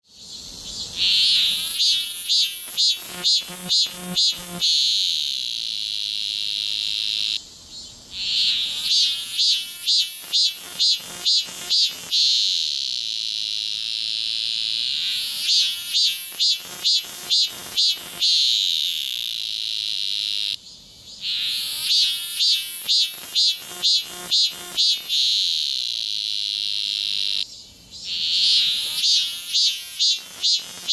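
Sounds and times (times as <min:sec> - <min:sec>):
cicada singing: 0:00.0 - 0:30.9.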